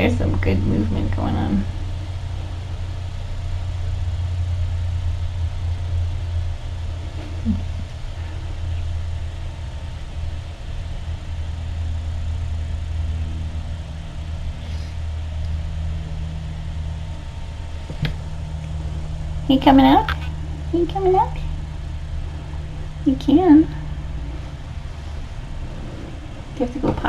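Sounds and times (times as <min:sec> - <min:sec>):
low steady rumble: 0:00.0 - 0:27.0.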